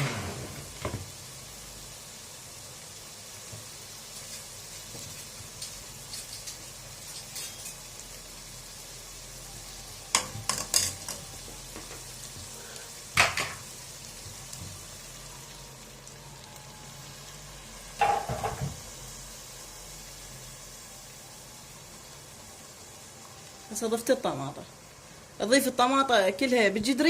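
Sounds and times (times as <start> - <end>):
food sizzling in a pot: 0.0 - 27.0.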